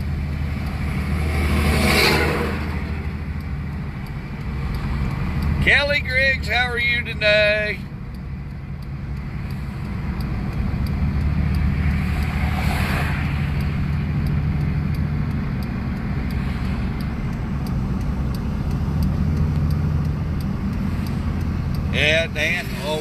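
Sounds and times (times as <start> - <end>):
tractor engine running: 0.0 - 12.6, 13.2 - 23.0.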